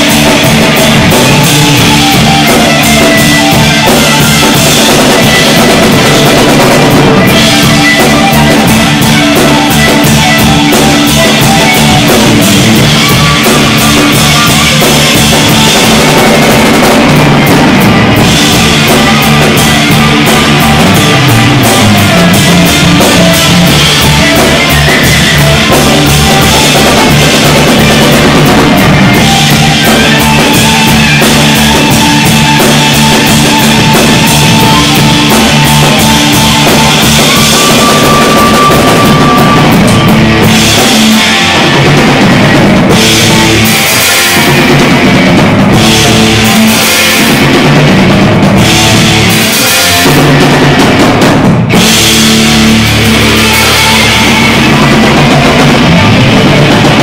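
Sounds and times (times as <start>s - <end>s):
bass guitar: 0.0s - 57.0s
distorted electric guitars: 0.0s - 57.0s
drum kit with cymbals: 0.0s - 57.0s.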